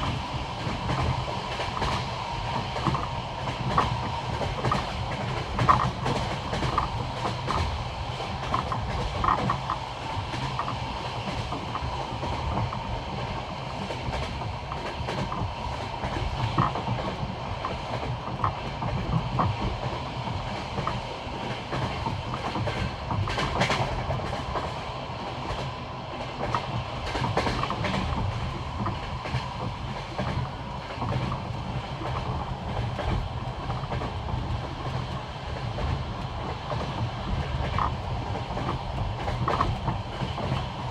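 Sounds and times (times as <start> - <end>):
train wheels clattering over rails: 0.0 - 40.9.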